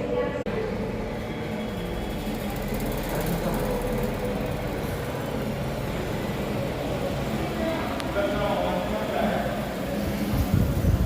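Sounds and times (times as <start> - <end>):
electric fan whirring: 0.5 - 11.0.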